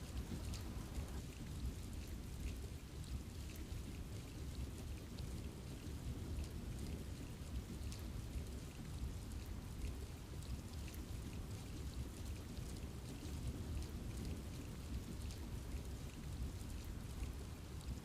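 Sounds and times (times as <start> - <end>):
steady rain in a forest: 0.0 - 18.0.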